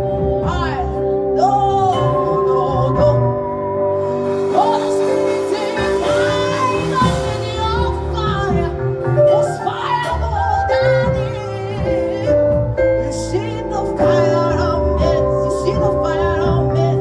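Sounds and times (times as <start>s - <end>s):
bass line: 0.0s - 17.0s
person singing long notes: 0.0s - 17.0s
sustained chords: 0.0s - 17.0s.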